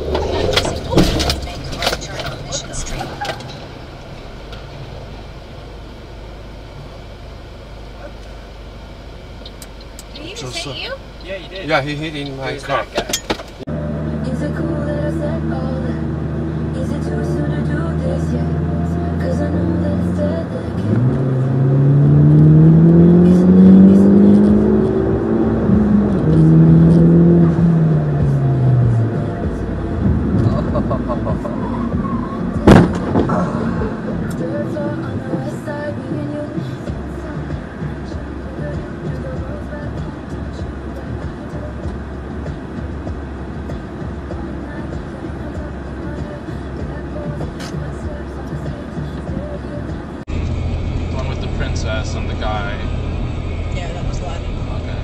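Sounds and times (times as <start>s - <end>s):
traffic rumble from inside a car: 0.0s - 55.0s
vehicle engine revving: 0.0s - 55.0s.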